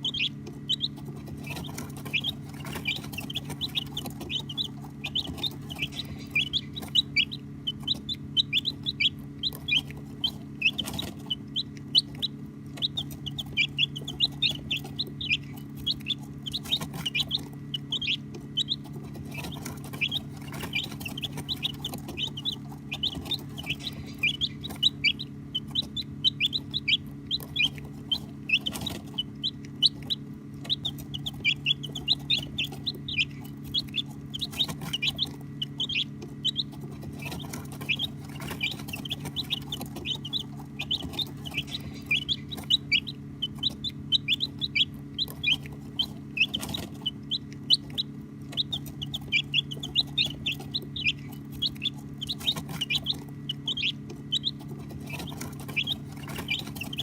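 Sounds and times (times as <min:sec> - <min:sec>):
baby chicks peeping: 0:00.0 - 0:57.0
steady low hum: 0:00.0 - 0:57.0.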